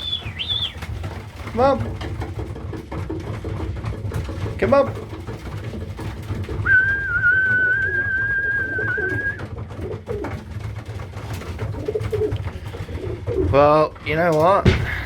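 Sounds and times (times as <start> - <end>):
pigeons cooing: 0.0 - 13.7.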